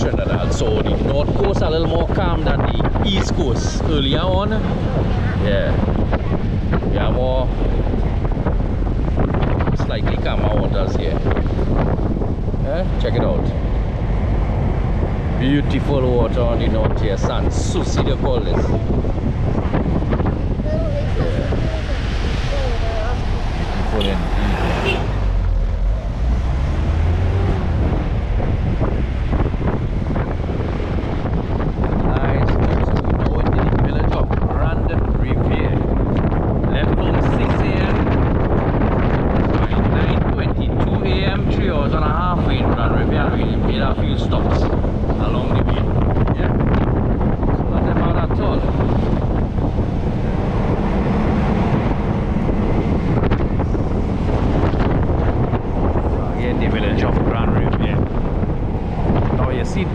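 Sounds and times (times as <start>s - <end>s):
vehicle engine and road rumble: 0.0s - 59.9s
wind buffeting microphone: 0.0s - 59.9s.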